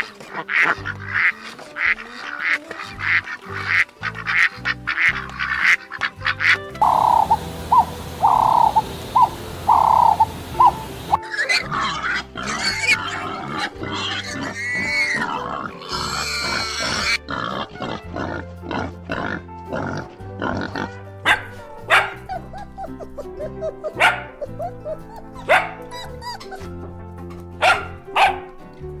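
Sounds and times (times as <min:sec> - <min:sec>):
animal calls: 0:00.0 - 0:18.2, 0:21.3 - 0:26.8, 0:27.6 - 0:28.5
background music: 0:00.0 - 0:29.0.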